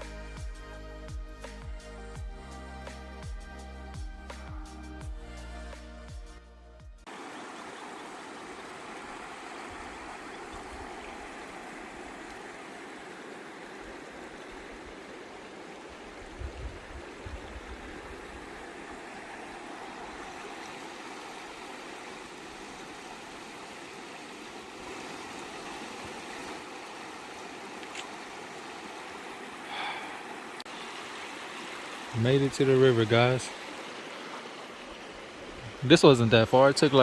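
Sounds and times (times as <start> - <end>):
river water rushing: 7.1 - 37.0.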